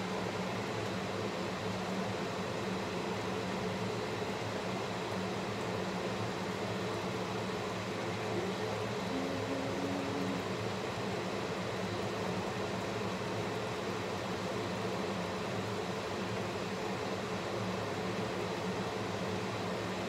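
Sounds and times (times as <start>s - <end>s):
range hood fan humming: 0.0s - 20.0s.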